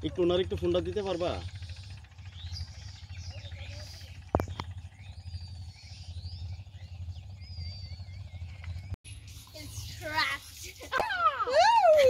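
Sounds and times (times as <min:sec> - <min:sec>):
low steady rumble: 0:00.0 - 0:12.0
birds chirping and whistling: 0:00.3 - 0:12.0.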